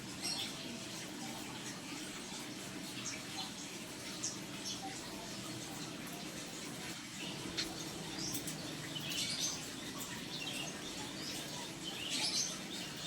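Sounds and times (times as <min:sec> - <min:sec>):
pond water trickling: 0:00.0 - 0:13.0
small birds chirping: 0:00.0 - 0:13.0.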